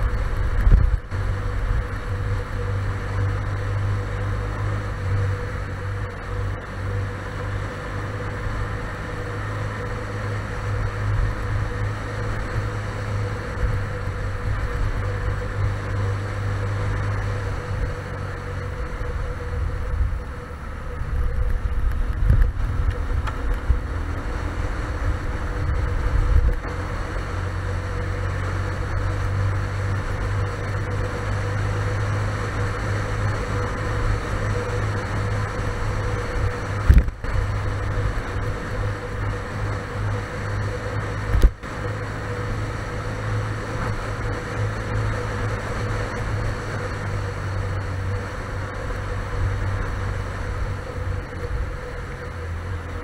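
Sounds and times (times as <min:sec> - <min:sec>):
road rumble on gravel: 0:00.0 - 0:53.0
small motorcycle engine running: 0:00.0 - 0:53.0
wind: 0:00.0 - 0:53.0.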